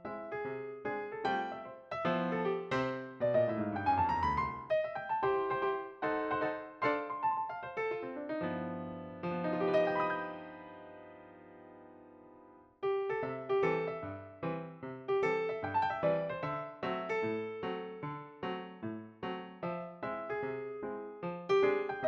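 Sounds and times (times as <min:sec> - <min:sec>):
piano melody: 0:00.0 - 0:22.0.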